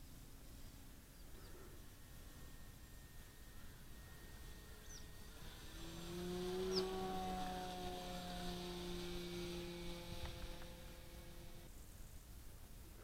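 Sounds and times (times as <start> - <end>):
model airplane motor humming: 0.0 - 11.8.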